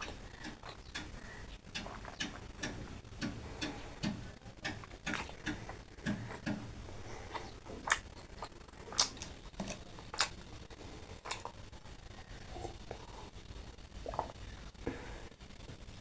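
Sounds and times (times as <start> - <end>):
chewing and lip-smacking: 0.0 - 14.5.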